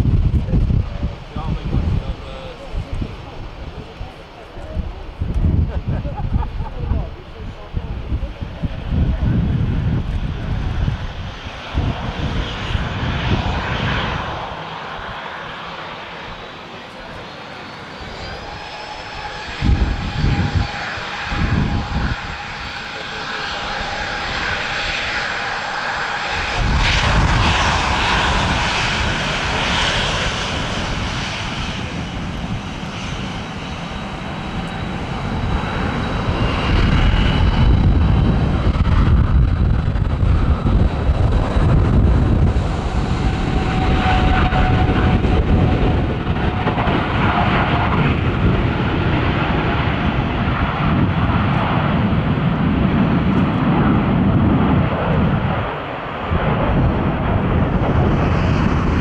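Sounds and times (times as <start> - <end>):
wind thudding on microphone: 0.0 - 4.0, 4.6 - 15.2, 18.1 - 23.0, 23.9 - 59.0
heavy rumble: 0.0 - 15.2, 18.0 - 59.0
jet engines whining: 0.0 - 59.0.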